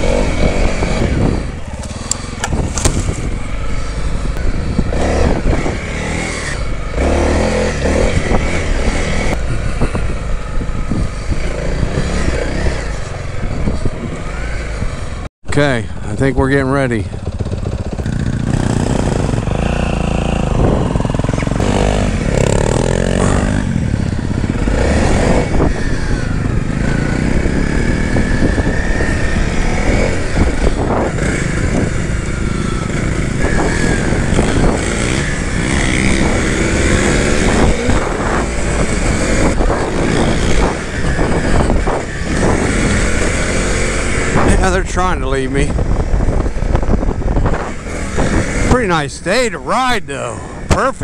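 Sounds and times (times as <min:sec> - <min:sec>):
motorcycle engine revving: 0:00.0 - 0:15.3, 0:16.0 - 0:51.0.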